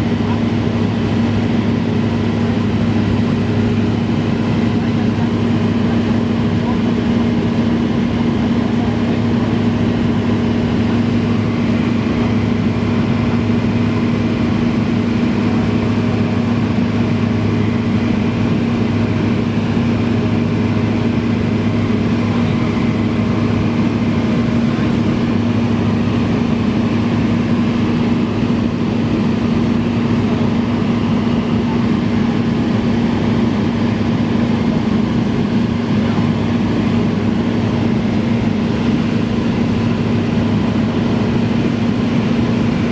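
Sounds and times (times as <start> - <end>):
propeller plane engine droning: 0.0 - 42.9.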